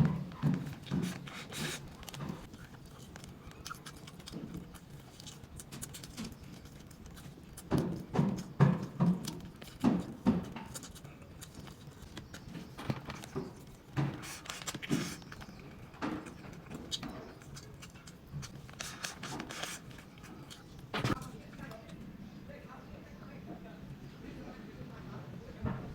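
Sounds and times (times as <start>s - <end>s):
person chewing food: 0.0s - 21.2s.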